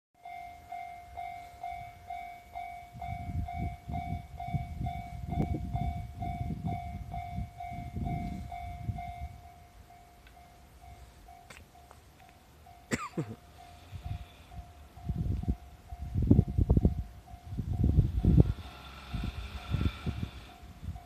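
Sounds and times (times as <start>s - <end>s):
level crossing warning bell: 0.2s - 21.0s.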